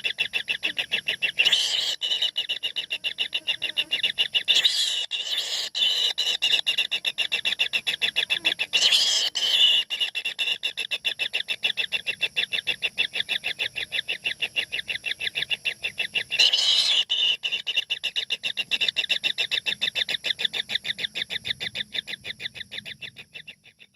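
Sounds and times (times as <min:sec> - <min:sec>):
nestlings begging calls: 0:00.0 - 0:23.6.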